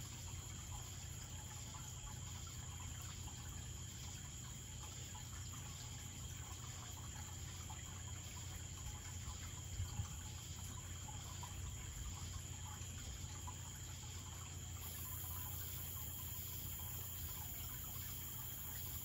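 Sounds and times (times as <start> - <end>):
water trickling: 0.0 - 19.0
aquarium filter humming: 0.1 - 19.0.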